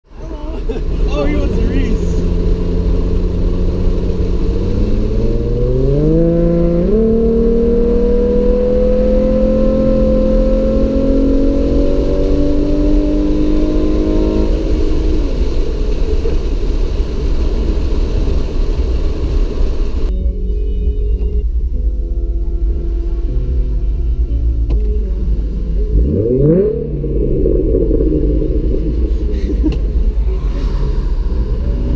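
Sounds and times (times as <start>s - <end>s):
car engine accelerating: 0.0s - 31.9s
low road rumble: 0.0s - 31.9s.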